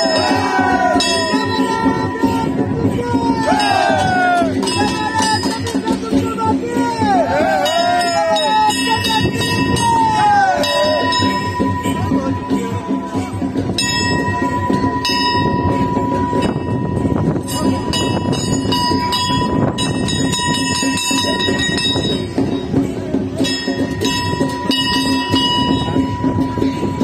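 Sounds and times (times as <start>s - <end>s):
bells and cymbals clashing: 0.0s - 27.0s.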